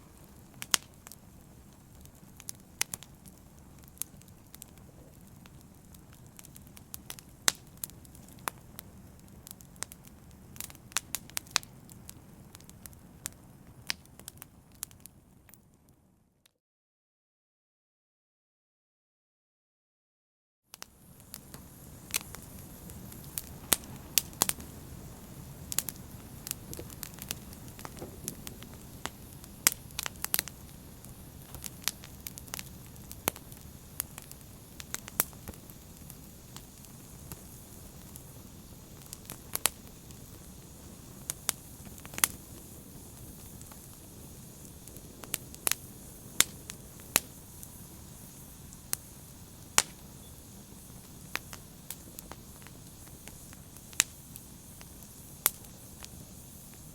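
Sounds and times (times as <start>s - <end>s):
fire crackling and popping: 0.0s - 16.0s, 20.7s - 56.9s.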